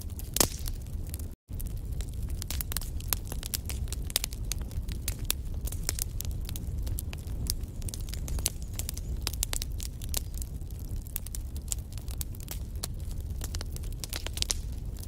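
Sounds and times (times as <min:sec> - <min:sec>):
logs crackling and popping: 0:00.0 - 0:15.0
low rumble of flame: 0:00.0 - 0:15.0.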